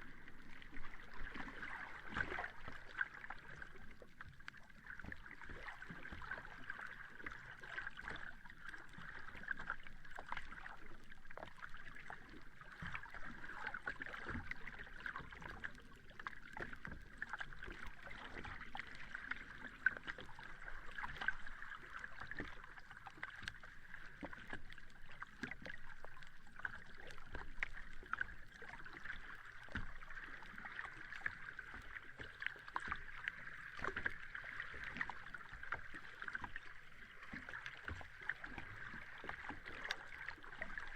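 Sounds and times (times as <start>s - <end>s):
sea water lapping at shore: 0.0s - 40.9s.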